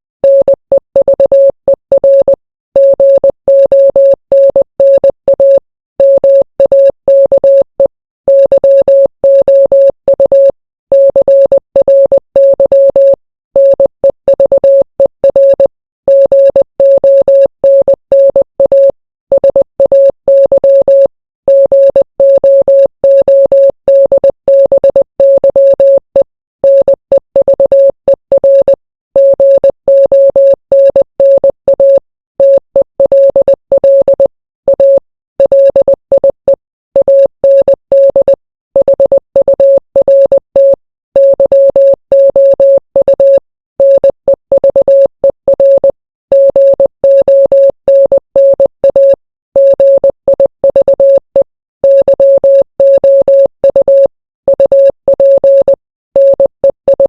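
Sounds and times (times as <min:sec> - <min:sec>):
morse code beeps: 0:00.2 - 0:57.0.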